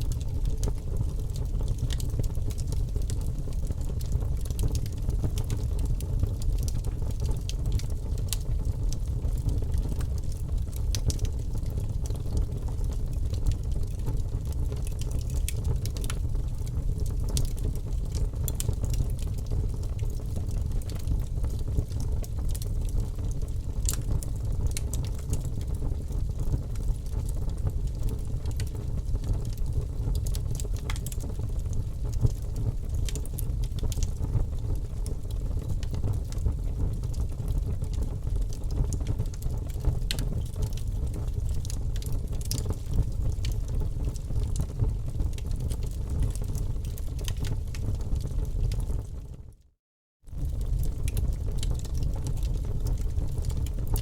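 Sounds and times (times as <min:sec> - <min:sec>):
low rumble of flame: 0:00.0 - 0:54.0
wood crackling and popping: 0:00.1 - 0:49.1, 0:50.3 - 0:54.0.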